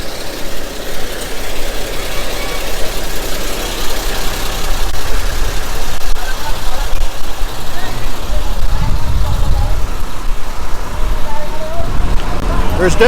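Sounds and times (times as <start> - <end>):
heavy truck engines rumbling: 0.0 - 13.0.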